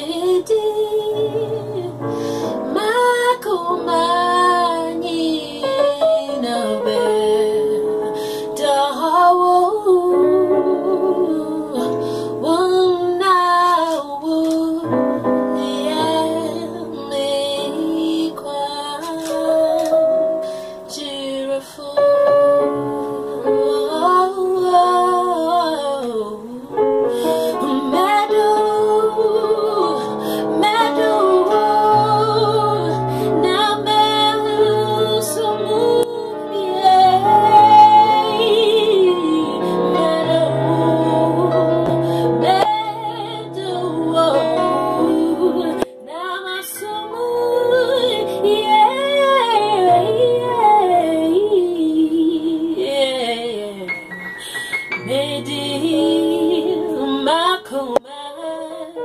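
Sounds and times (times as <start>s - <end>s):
woman singing neo-soul: 0.0s - 59.0s.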